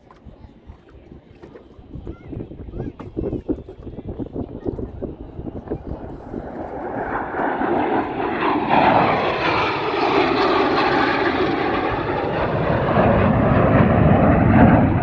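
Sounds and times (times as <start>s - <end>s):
aircraft flying past: 0.3s - 15.0s.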